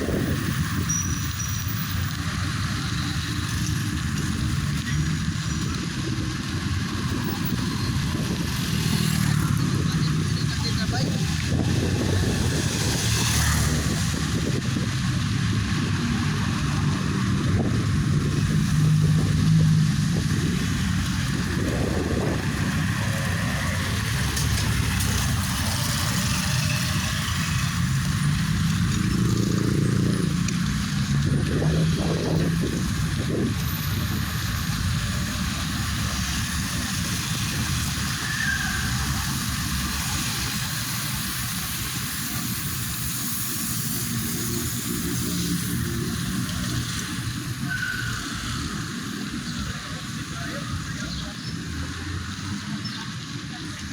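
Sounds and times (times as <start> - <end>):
vehicle engine and road noise: 0.0 - 53.9.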